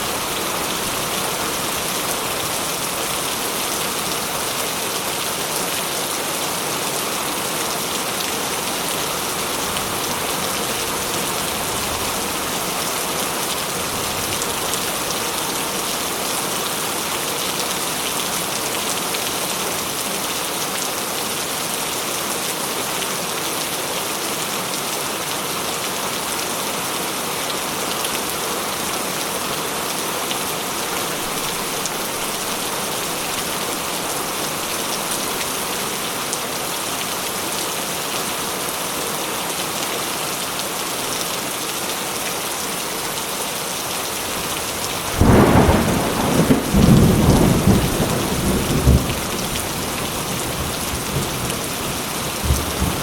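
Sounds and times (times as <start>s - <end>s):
heavy rain splashing: 0.0s - 53.0s.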